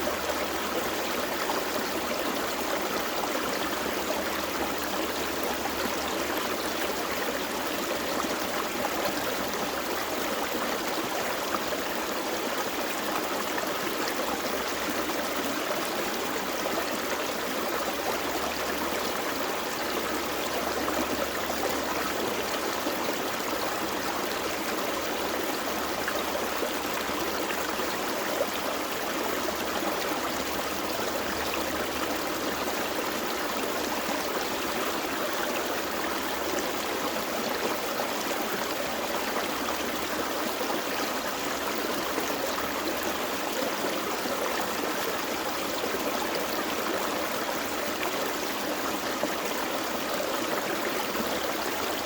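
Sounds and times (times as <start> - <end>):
creek flowing over rocks: 0.0 - 52.0.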